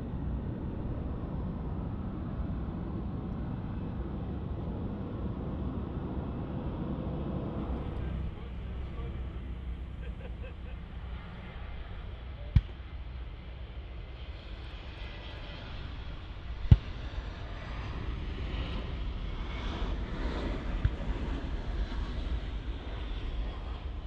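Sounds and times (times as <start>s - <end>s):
jet engines rumbling and whining: 0.0s - 24.0s.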